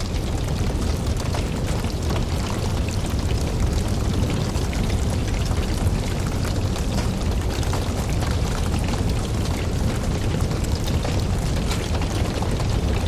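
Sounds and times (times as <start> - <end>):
burning wood crackling and popping: 0.0 - 13.0
flames rumbling: 0.0 - 13.0.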